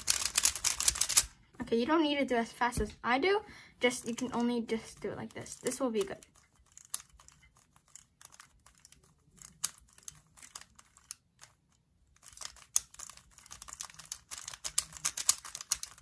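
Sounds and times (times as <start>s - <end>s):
puzzle cube clicking and clacking: 0.0s - 1.4s, 3.8s - 16.0s.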